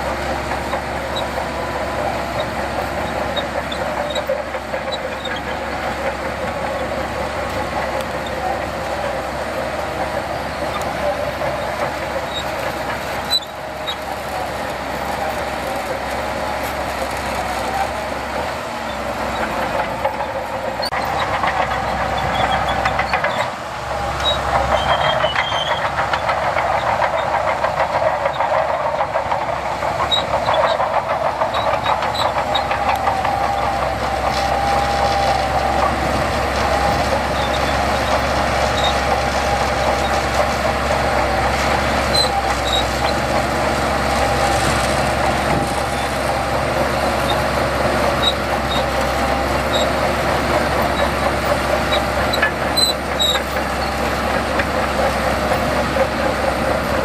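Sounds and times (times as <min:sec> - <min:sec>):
diesel earthmoving machinery: 0:00.0 - 0:57.0.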